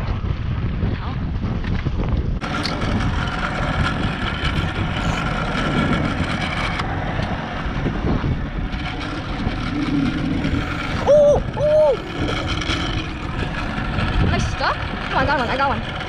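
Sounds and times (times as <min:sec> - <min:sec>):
wind: 0:00.0 - 0:16.0
boat motor running: 0:02.2 - 0:16.0
water noise: 0:02.4 - 0:16.0.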